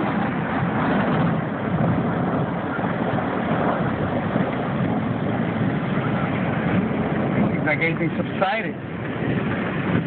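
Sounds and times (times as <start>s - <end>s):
storm wind rushing: 0.0s - 10.0s.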